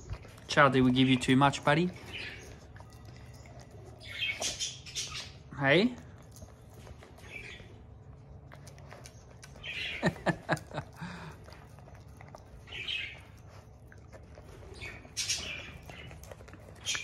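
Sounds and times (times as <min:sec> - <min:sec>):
dog licking and chewing: 0:00.0 - 0:17.0
faint birds chirping: 0:00.0 - 0:17.0.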